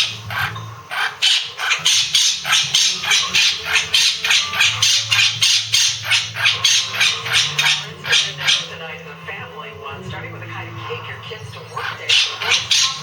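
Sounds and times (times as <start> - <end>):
parrot squawking: 0.0 - 9.0, 11.4 - 13.0.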